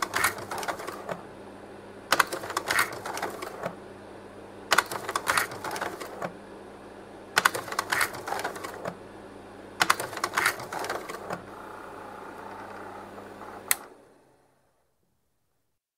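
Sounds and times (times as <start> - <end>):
projector cooling fan humming: 0.0 - 14.8.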